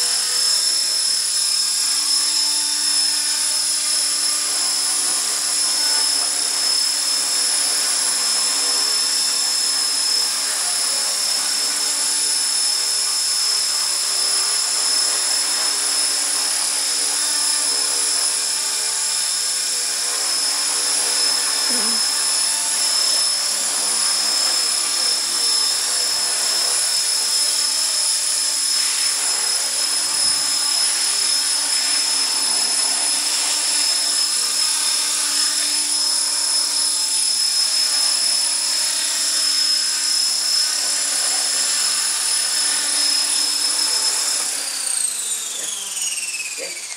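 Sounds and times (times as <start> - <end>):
electric motor whine: 0.0 - 46.9.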